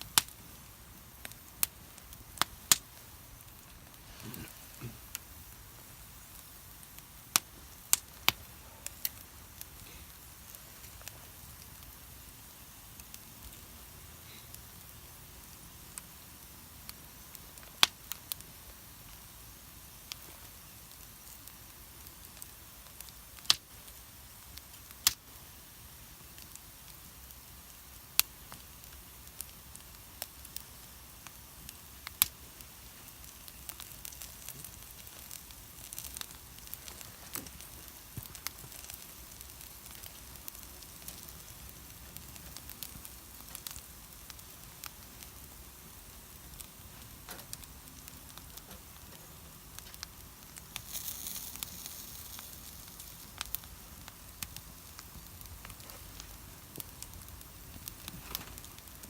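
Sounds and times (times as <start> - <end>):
fire pops: 0.0 - 12.0, 16.9 - 19.4, 20.0 - 25.4, 26.2 - 59.0
campfire crackling: 0.0 - 59.0.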